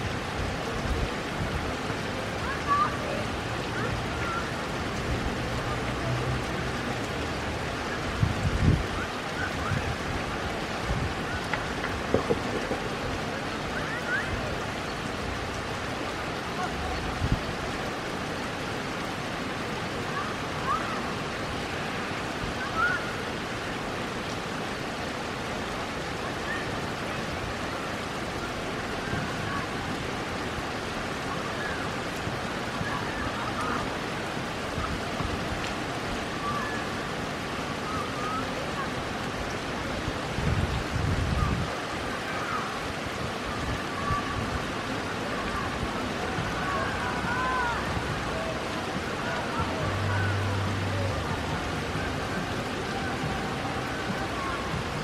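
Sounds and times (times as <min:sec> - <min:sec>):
heavy rain on pavement: 0:00.0 - 0:55.0.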